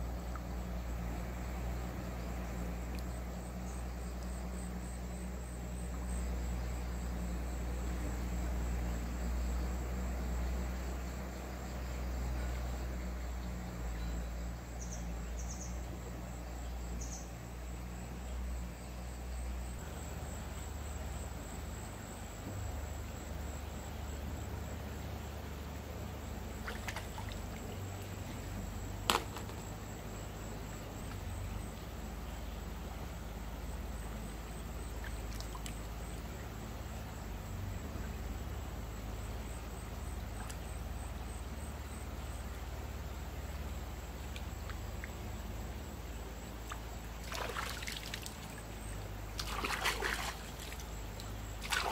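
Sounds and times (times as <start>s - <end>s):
stream water trickling: 0.0s - 51.9s.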